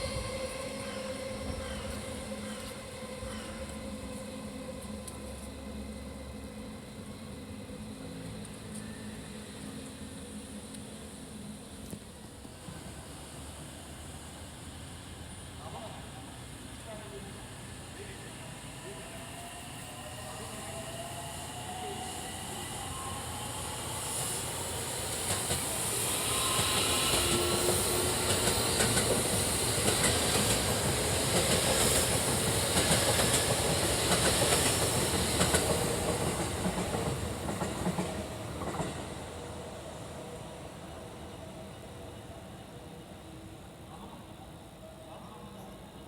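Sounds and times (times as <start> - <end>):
freight train rumbling: 0.0 - 46.0.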